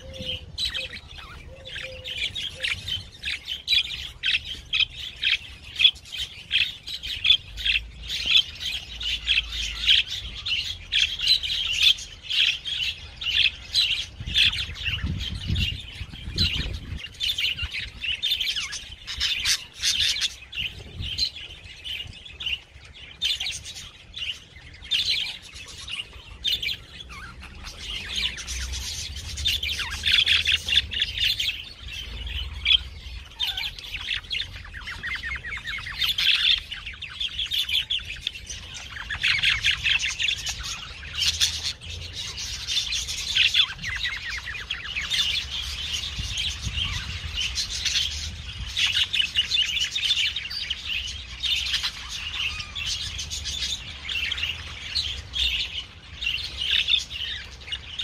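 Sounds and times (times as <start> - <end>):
parrots twittering: 0.0 - 58.0.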